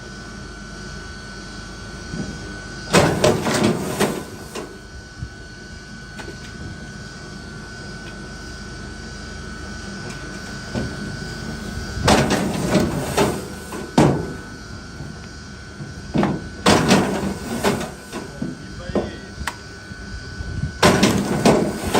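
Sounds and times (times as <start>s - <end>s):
machine hum with whine: 0.0s - 21.9s.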